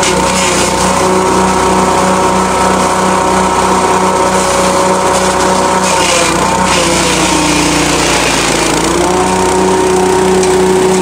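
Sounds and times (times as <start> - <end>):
small engine running: 0.0 - 11.0
stalks being shredded: 0.0 - 11.0.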